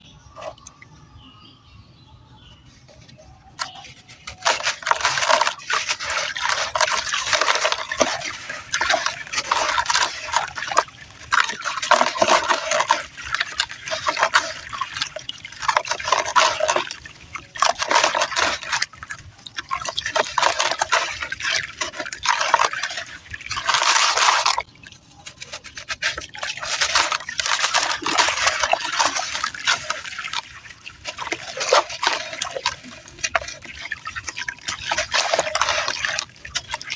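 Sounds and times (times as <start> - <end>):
dry dirt crunching: 2.8 - 36.9.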